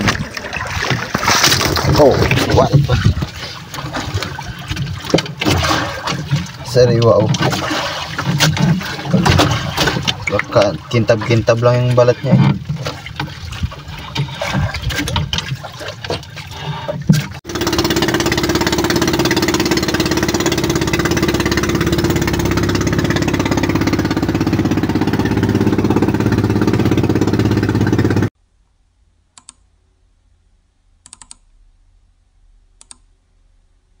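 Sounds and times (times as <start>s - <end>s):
boat engine running: 0.0s - 28.3s.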